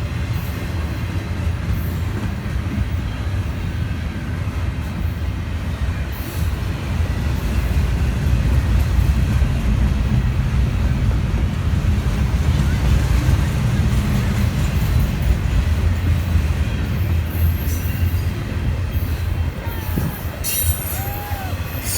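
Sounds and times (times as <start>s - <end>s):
train rumbling past: 0.0s - 21.9s.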